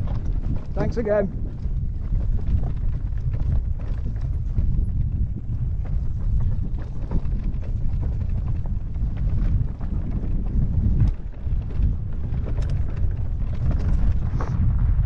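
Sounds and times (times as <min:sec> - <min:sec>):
small knocks and rattles: 0:00.0 - 0:14.7
bike rumbling on stony trail: 0:00.0 - 0:15.0
wind on microphone: 0:00.0 - 0:15.0.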